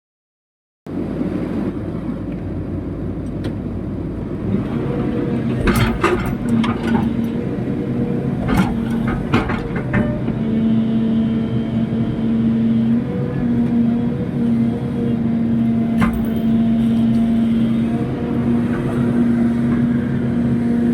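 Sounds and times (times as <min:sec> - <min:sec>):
excavator engine running: 0:00.9 - 0:20.9.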